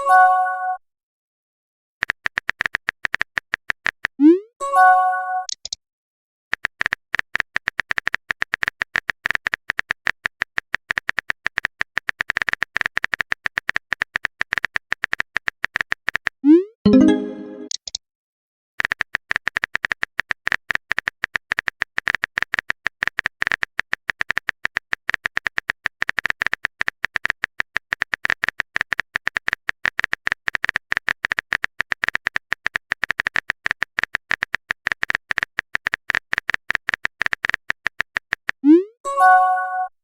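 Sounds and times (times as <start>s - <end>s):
keyboard typing clicks: 2.0s - 4.3s, 5.4s - 5.8s, 6.5s - 18.0s, 18.8s - 38.8s.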